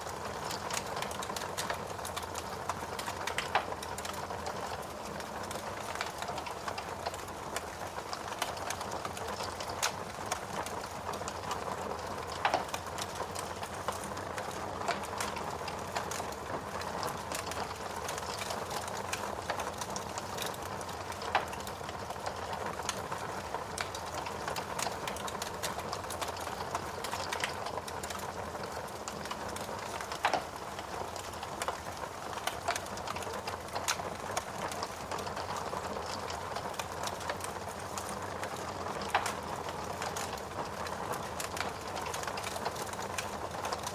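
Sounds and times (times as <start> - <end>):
steady rain: 0.0 - 43.9
wood fire crackling: 0.0 - 43.9.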